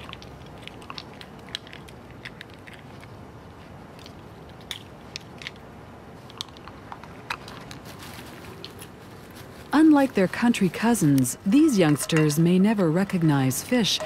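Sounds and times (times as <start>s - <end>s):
raccoons chewing and rummaging: 0.0s - 14.0s.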